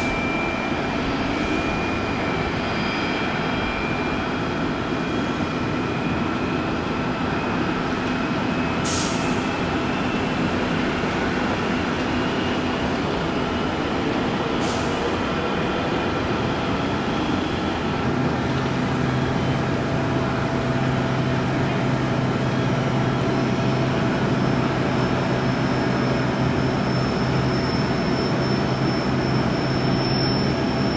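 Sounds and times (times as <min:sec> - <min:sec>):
jet engine noise: 0:00.0 - 0:30.9.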